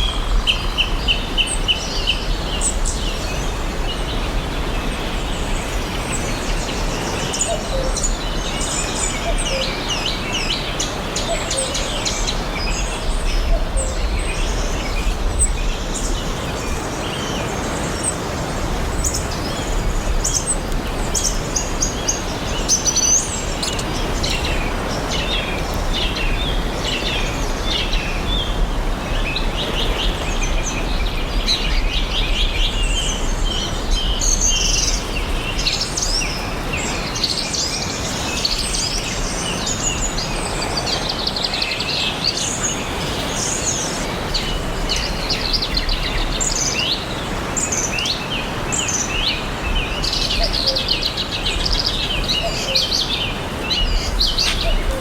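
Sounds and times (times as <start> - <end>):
outdoor ambience hiss: 0.0 - 55.0
songbirds chirping and singing: 0.0 - 55.0.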